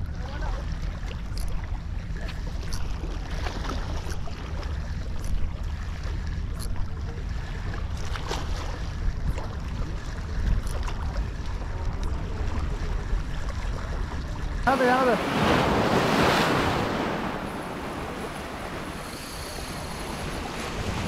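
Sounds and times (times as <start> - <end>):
water sloshing around boat: 0.0 - 21.0.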